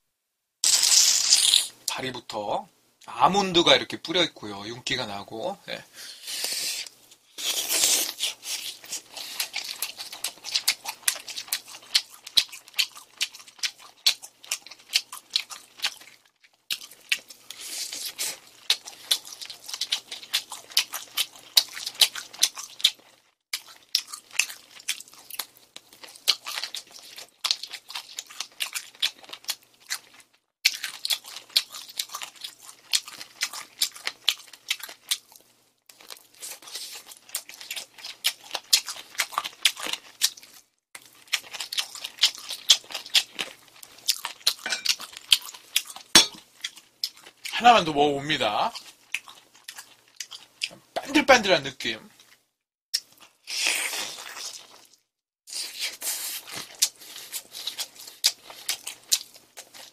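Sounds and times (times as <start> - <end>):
crunching and chewing fried chicken: 0.6 - 1.8, 6.2 - 59.9.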